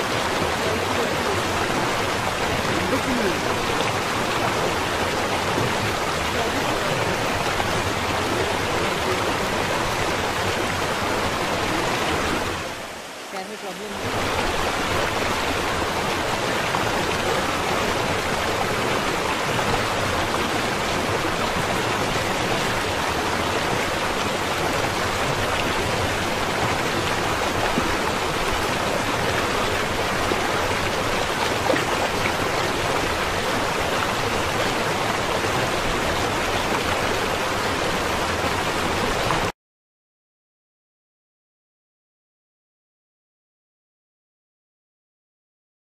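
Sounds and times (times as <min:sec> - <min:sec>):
river flowing over stones: 0:00.0 - 0:39.5.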